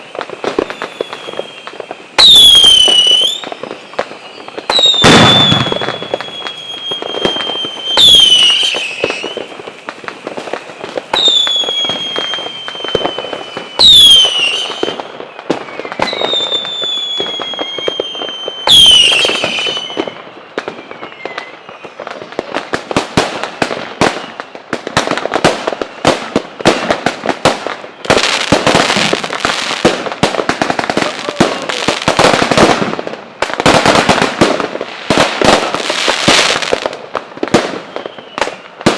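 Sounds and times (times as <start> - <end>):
firecrackers banging and crackling: 0.0 - 38.9
whistling fireworks with bangs: 0.0 - 38.9.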